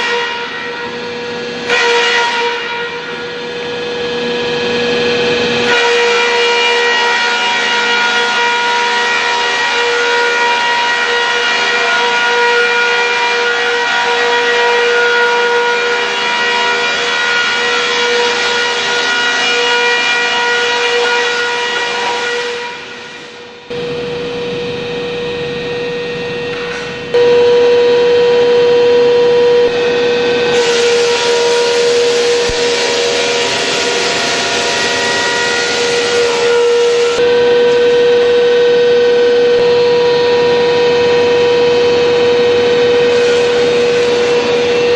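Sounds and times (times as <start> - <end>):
wood crusher running: 3.5 - 24.7, 29.7 - 44.9.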